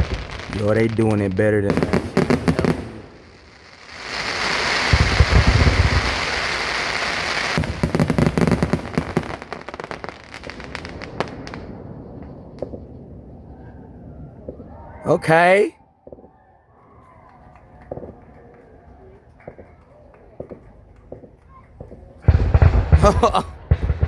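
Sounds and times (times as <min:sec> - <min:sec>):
fireworks crackling and popping: 0:00.0 - 0:13.4, 0:14.4 - 0:24.0
fireworks booming: 0:00.0 - 0:16.4, 0:19.5 - 0:24.0.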